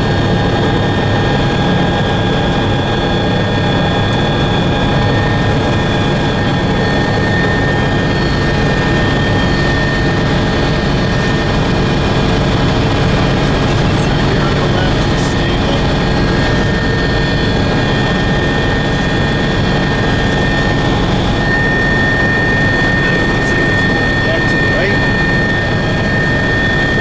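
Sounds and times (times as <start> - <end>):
aircraft engines rushing: 0.0 - 27.0
high engine whine: 0.0 - 27.0.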